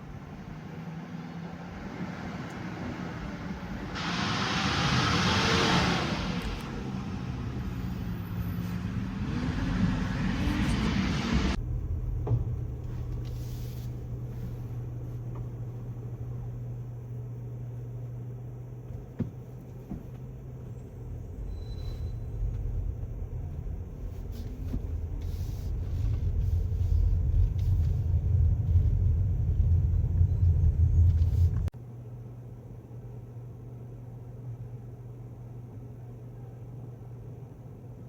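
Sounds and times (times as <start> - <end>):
truck diesel engine rumbling: 0.0 - 31.7.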